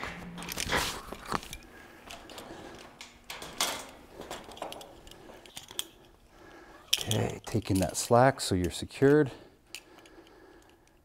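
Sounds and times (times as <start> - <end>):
climbing hardware clinking on steel: 0.0 - 6.2, 6.8 - 11.0.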